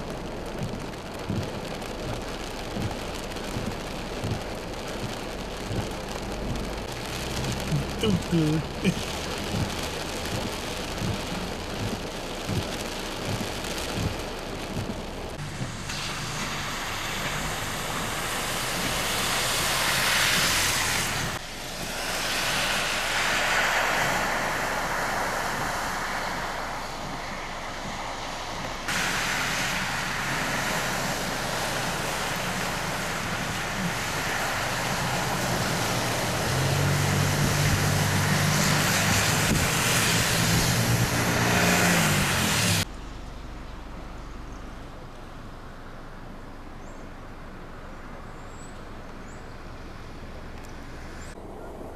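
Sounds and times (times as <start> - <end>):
heavy rain: 0.0 - 42.9
low vehicle engine hum: 0.0 - 51.9
wind: 0.0 - 51.9.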